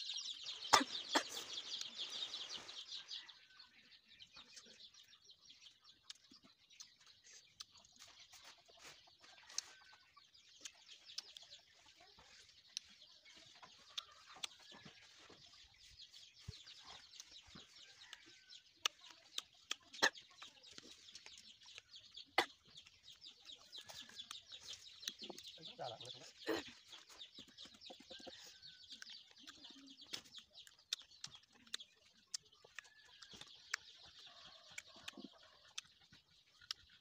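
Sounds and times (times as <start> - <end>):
fruit being bitten and chewed: 4.5 - 25.6, 26.2 - 37.0.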